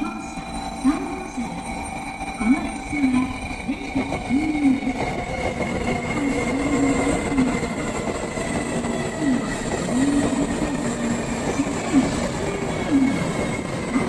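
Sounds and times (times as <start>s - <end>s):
train rolling and rushing: 0.0s - 14.0s.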